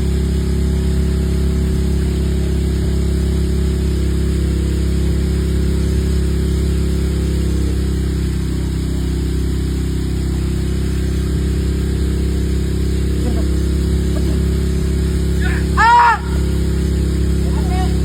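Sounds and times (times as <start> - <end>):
engine humming: 0.0 - 18.0
water spraying hiss: 0.0 - 18.0.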